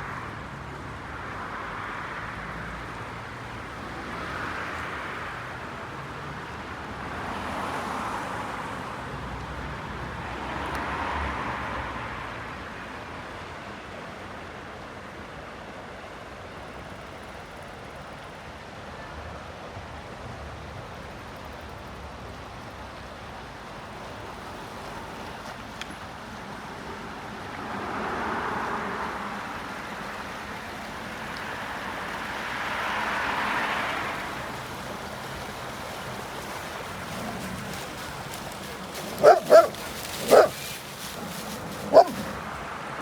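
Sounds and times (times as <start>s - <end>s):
rushing water: 0.0s - 43.0s
wind: 0.0s - 43.0s.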